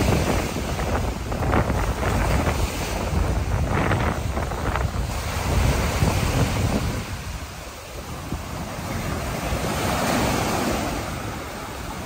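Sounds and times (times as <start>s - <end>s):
waves washing up a beach: 0.0s - 12.0s
wind buffeting microphone: 0.0s - 12.0s.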